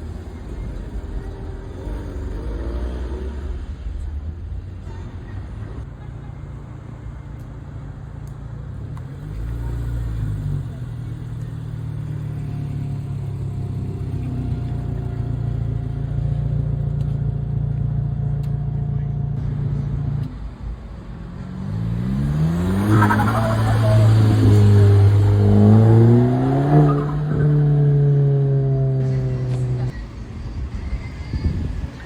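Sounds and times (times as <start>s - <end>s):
car engine running and revving: 0.0s - 32.0s.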